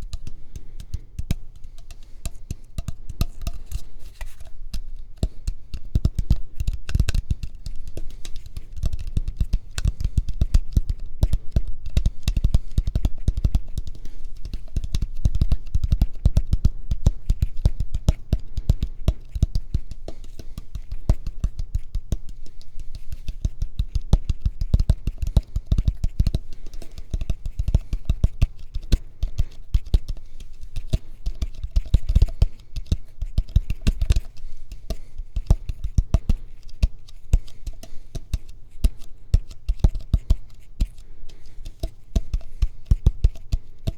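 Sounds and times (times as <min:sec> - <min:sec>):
fingertip tapping: 0:00.0 - 0:43.9.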